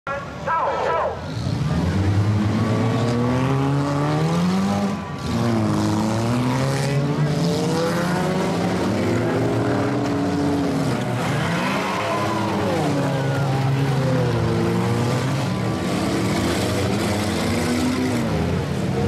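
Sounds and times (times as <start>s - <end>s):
car engines revving hard: 1.2s - 19.0s.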